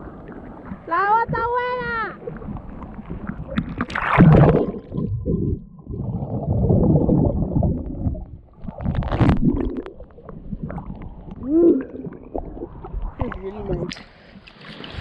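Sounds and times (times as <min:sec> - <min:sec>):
water sloshing and gurgling: 0:00.0 - 0:15.0
water splashes: 0:00.0 - 0:15.0.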